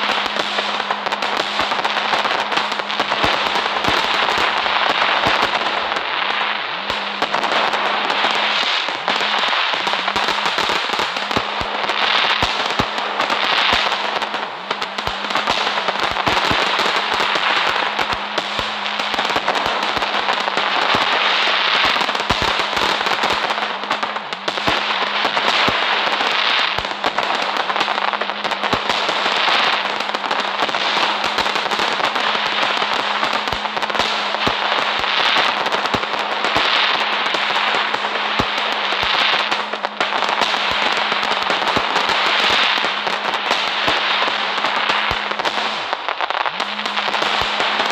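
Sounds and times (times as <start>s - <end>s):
fireworks crackling: 0.0s - 47.9s.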